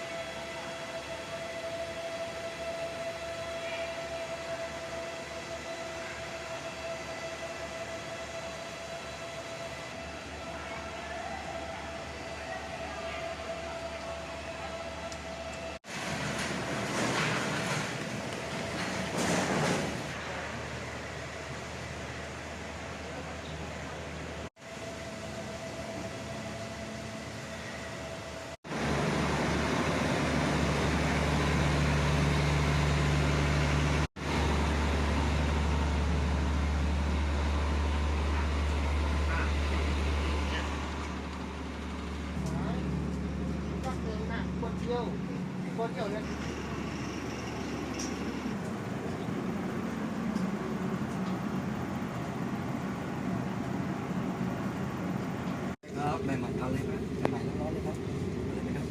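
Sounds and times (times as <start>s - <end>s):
train rumbling inside carriage: 0.0s - 58.9s.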